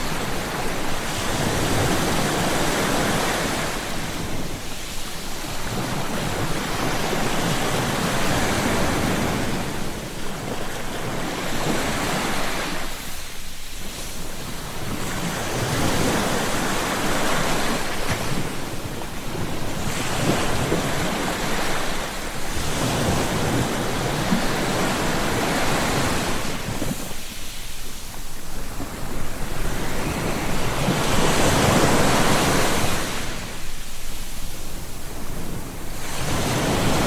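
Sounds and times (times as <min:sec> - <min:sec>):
ocean waves breaking on shore: 0:00.0 - 0:37.0
wind noise on microphone: 0:00.0 - 0:37.0.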